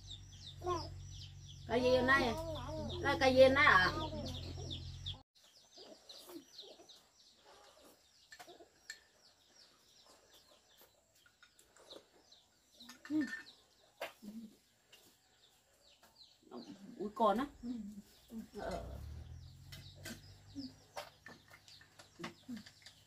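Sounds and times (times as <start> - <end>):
small birds twittering: 0.0 - 23.0.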